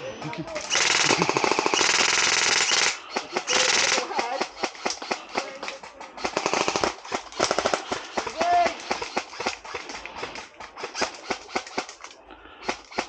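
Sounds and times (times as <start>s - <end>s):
airsoft rifles firing full-auto bursts: 0.4s - 13.0s.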